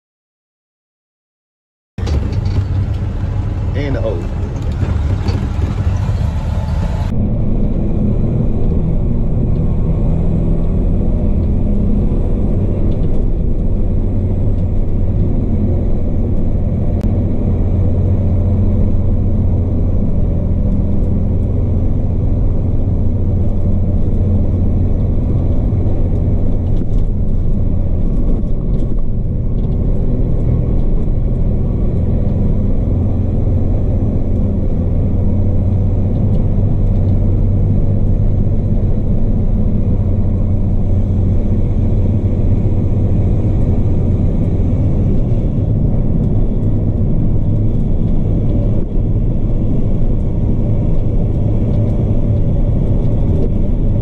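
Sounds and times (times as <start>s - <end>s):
diesel truck engine droning: 2.0s - 54.0s.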